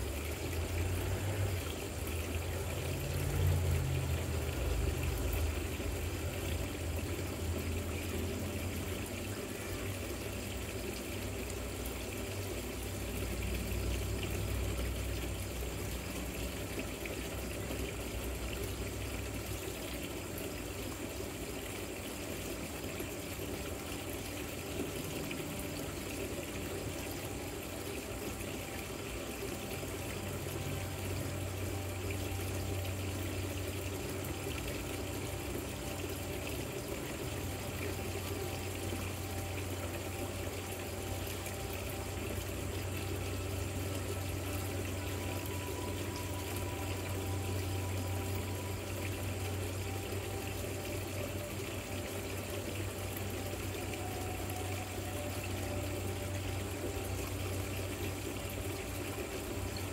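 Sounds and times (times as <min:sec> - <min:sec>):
low steady hum: 0:00.0 - 0:59.9
water trickling down rock fountain: 0:00.0 - 0:59.9.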